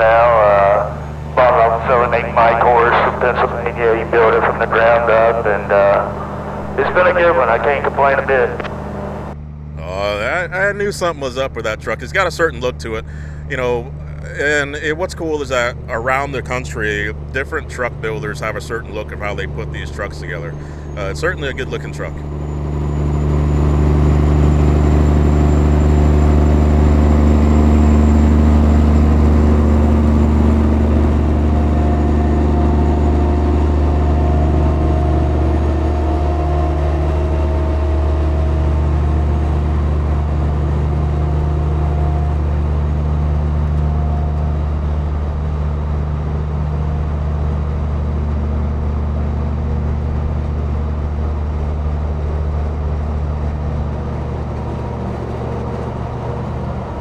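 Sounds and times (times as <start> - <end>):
truck diesel engine droning: 0.0 - 57.0.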